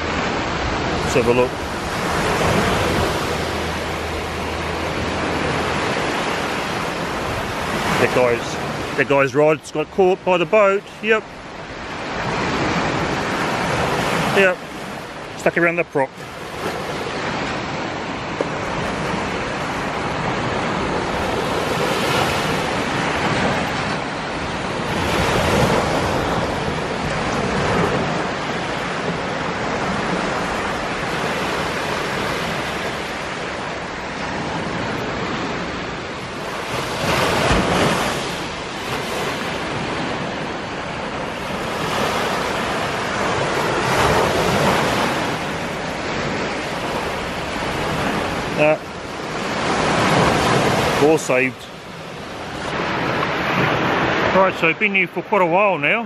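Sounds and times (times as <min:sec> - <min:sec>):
surf waves breaking on sand beach: 0:00.0 - 0:56.0.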